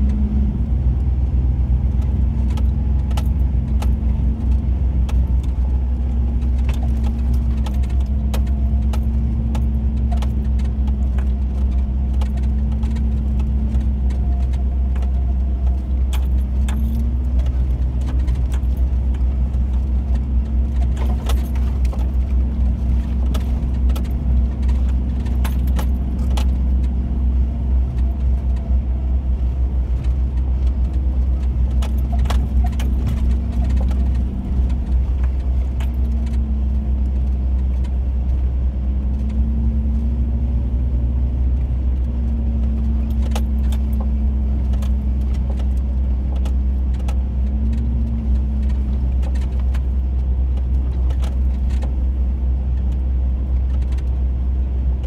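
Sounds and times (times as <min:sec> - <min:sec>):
heavy low rumble: 0:00.0 - 0:55.0
rattles and clicks from truck: 0:00.0 - 0:55.0
truck engine droning: 0:00.0 - 0:55.0.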